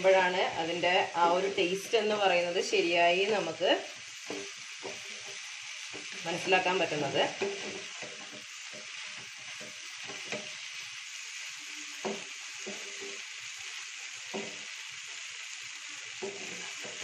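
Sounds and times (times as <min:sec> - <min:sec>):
sauce sizzling in a pan: 0:00.0 - 0:17.0
spatula scraping a pan: 0:00.7 - 0:17.0.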